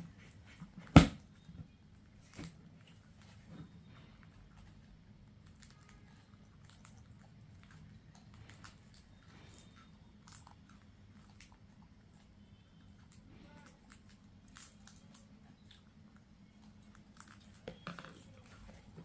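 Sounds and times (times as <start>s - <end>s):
parrot crunching rice grains: 1.9s - 19.0s.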